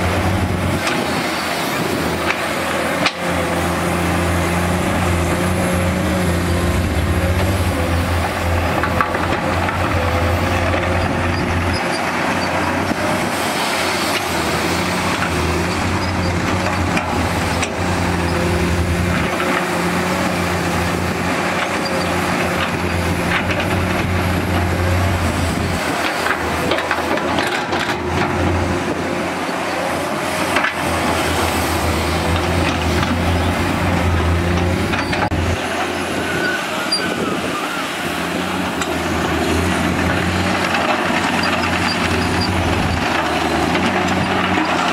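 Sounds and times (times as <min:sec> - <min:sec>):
excavator diesel engine working: 0:00.0 - 0:44.9.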